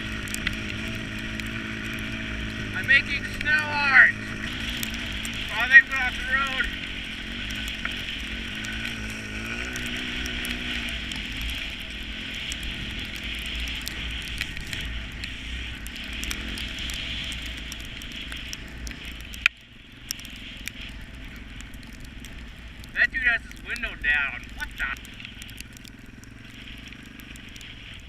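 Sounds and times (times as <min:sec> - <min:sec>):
vehicle driving on snowy road: 0:00.0 - 0:28.0.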